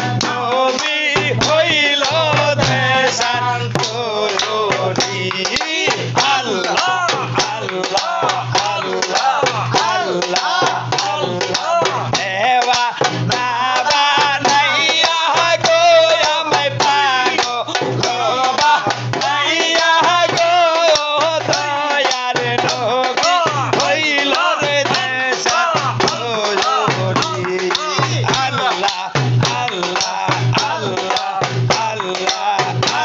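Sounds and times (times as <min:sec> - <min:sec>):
hand claps: 0:00.0 - 0:14.3, 0:14.9 - 0:33.0
barrel drum beating: 0:00.0 - 0:33.0
men singing folk song: 0:00.0 - 0:33.0.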